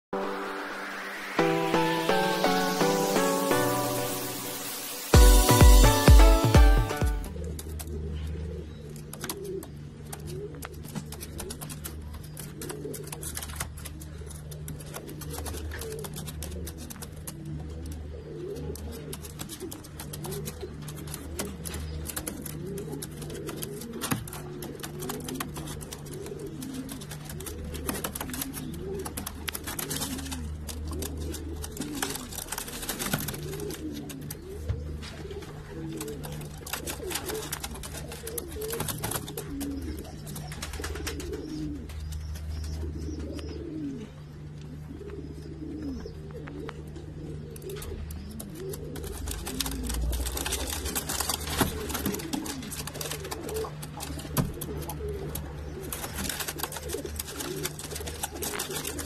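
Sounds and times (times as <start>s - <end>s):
pigeons cooing: 6.9s - 59.0s.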